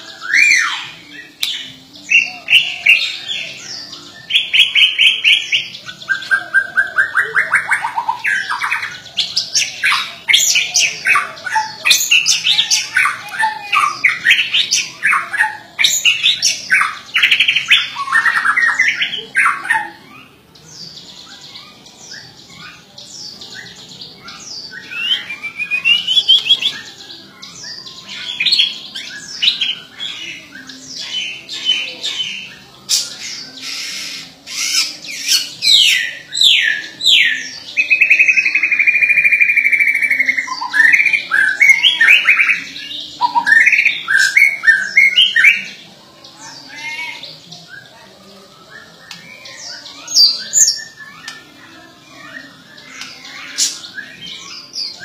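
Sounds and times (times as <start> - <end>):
songbird singing varied whistles: 0.0 - 19.6, 21.2 - 45.8.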